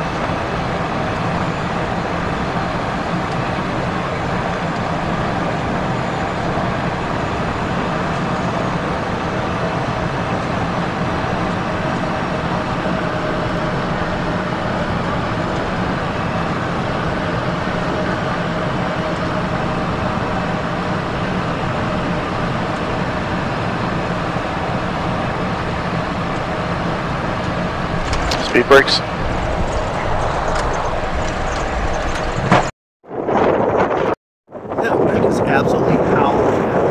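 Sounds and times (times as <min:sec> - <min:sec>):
jet engines humming: 0:00.0 - 0:36.9.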